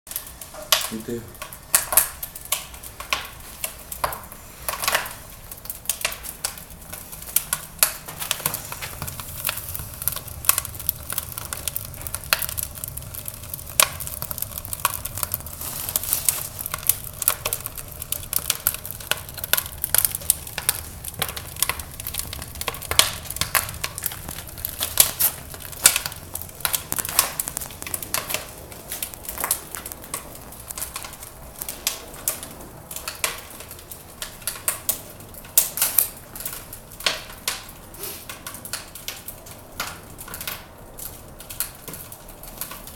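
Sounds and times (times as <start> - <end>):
wood fire crackling: 0.1 - 42.9.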